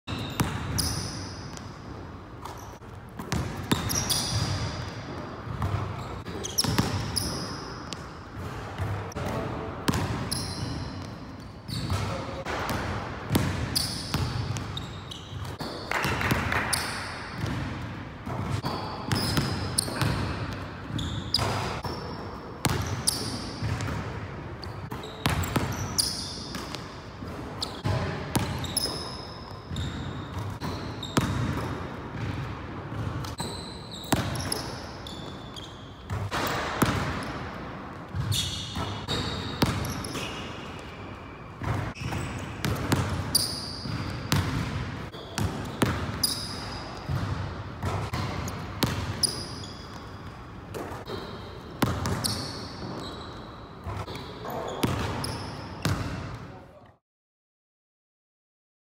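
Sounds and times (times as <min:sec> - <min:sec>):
sneaker squeaks on court: 0:00.1 - 0:09.0, 0:09.9 - 0:24.0, 0:24.6 - 0:56.4.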